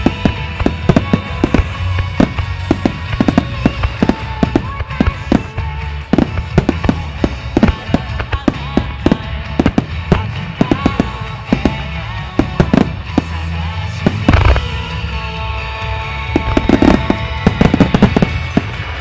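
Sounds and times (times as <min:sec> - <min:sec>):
fireworks bursting: 0:00.0 - 0:19.0
music: 0:00.0 - 0:19.0.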